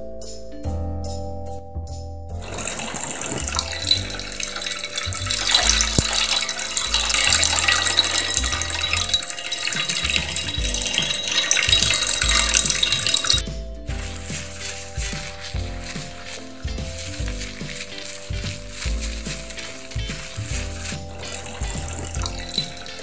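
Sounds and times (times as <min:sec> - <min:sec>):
background music: 0:00.0 - 0:23.0
tap water splashing: 0:02.4 - 0:13.4, 0:14.0 - 0:23.0.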